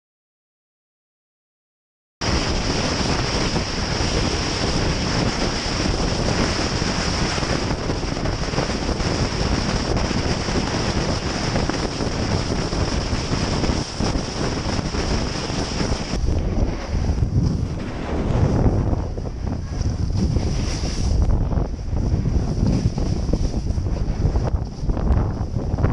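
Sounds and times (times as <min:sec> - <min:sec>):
wind rushing on microphone: 0:02.2 - 0:25.9.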